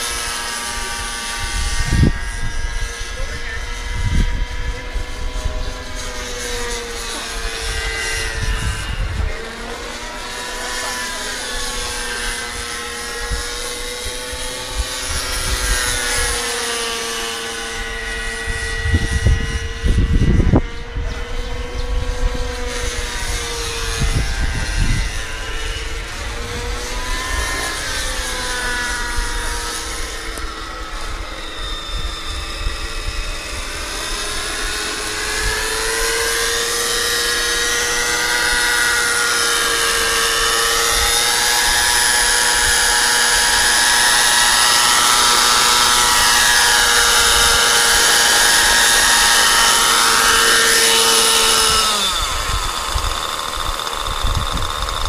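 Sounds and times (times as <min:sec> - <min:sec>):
wind buffeting on microphone: 0:00.0 - 0:10.0, 0:17.5 - 0:55.0
model helicopter engine and rotor whine: 0:00.0 - 0:55.0.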